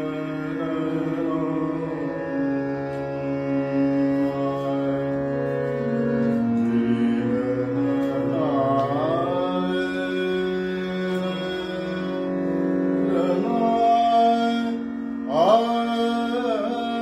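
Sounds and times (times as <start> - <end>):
man singing: 0.0 - 5.5, 6.6 - 17.0
harmonium sustained chords: 0.0 - 17.0.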